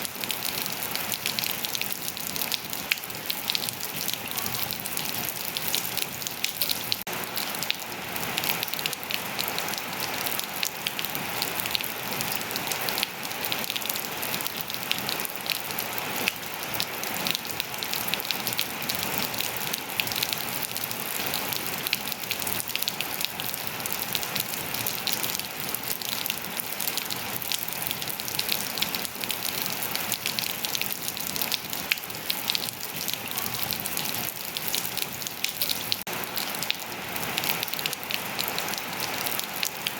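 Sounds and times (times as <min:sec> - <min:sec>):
raindrops ticking on hard surfaces: 0:00.0 - 0:39.9
steady rain hiss: 0:00.0 - 0:39.9.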